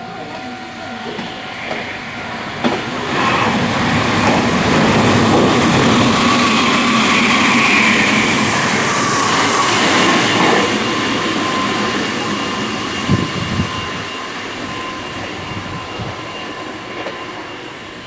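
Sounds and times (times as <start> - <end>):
electric train whine: 0.0 - 18.0
train wheels rumbling: 0.0 - 18.0.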